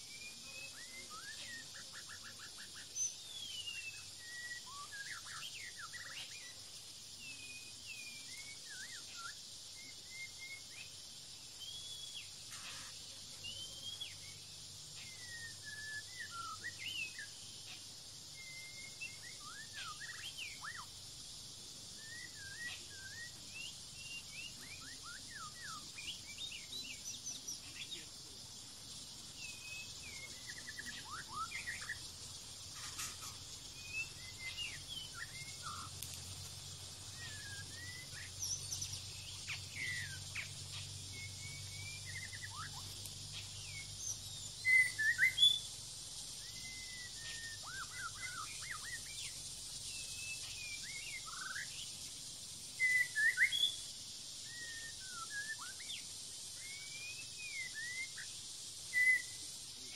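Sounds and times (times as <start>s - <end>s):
bird singing and calling: 0.0s - 59.9s
steady high hiss: 0.0s - 59.9s.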